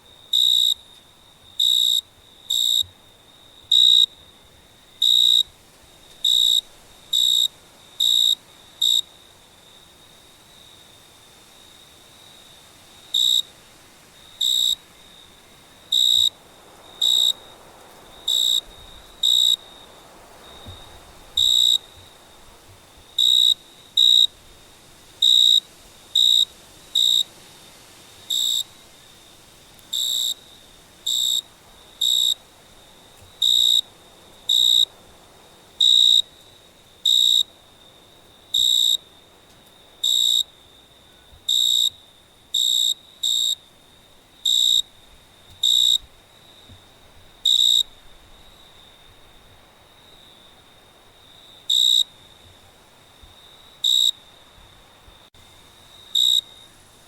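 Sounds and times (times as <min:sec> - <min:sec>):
cricket chirping: 0:00.0 - 0:57.0
faint background hiss: 0:00.0 - 0:57.0.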